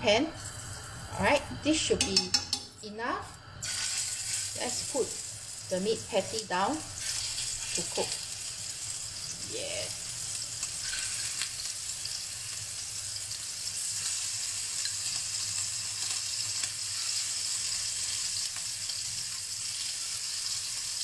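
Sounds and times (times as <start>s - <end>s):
patties sizzling in hot oil: 0.0s - 21.0s.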